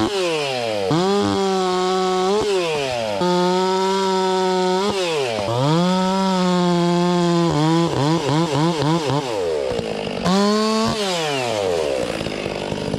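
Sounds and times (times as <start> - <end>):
chainsaw revving: 0.0 - 12.9.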